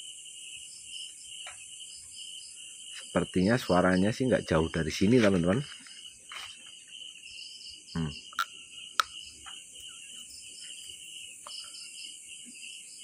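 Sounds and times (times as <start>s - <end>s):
crickets and frogs trilling: 0.0s - 13.0s.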